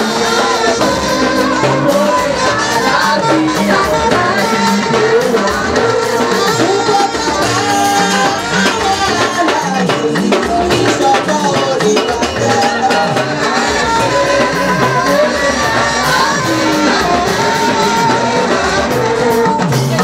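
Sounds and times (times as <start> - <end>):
church choir singing: 0.0 - 20.0
drums: 0.0 - 20.0
shaken percussion: 0.0 - 20.0.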